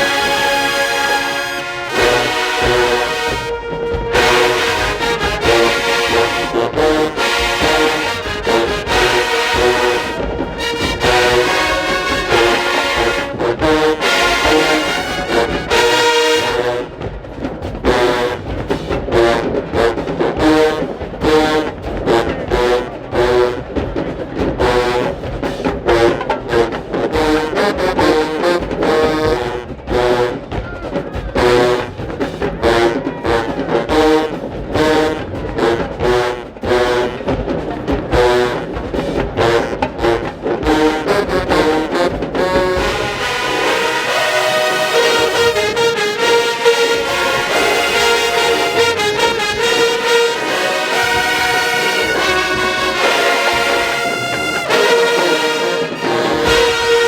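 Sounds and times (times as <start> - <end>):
brass riff blaring: 0.0 - 17.1, 17.8 - 23.6, 24.6 - 25.3, 25.9 - 30.5, 31.4 - 57.0
drumline percussion: 0.0 - 57.0.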